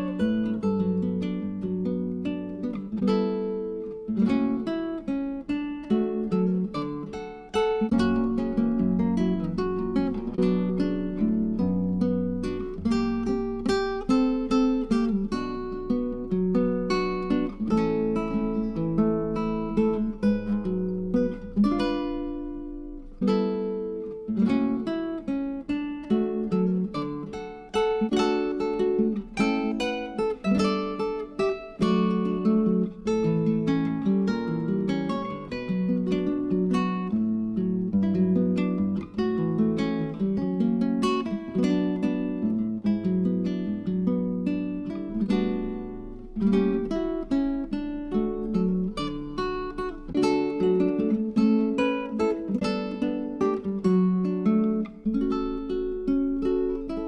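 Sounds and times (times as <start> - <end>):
acoustic guitar melody: 0.0 - 57.0.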